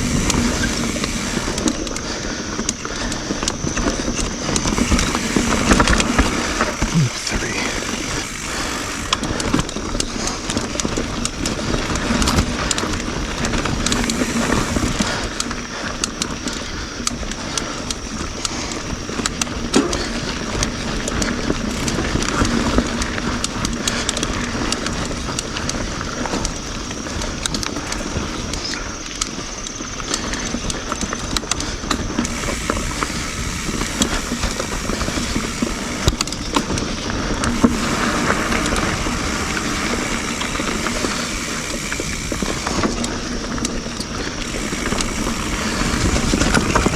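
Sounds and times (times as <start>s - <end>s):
bike rattling clicks and knocks: 0.0s - 46.9s
bike tyre and trail rush: 0.0s - 46.9s.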